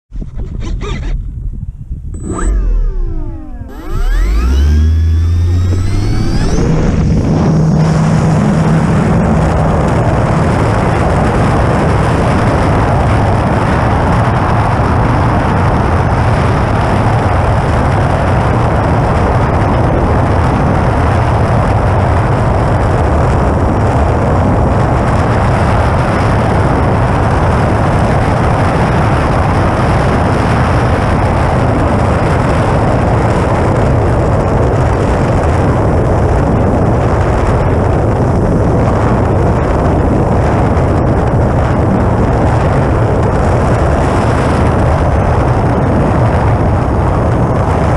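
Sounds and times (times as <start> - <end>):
wind rush and propeller hiss: 0.1 - 47.9.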